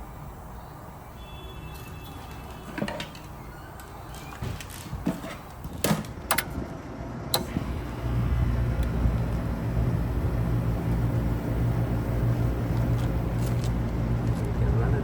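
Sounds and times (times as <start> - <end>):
air conditioning unit humming: 0.0 - 15.0.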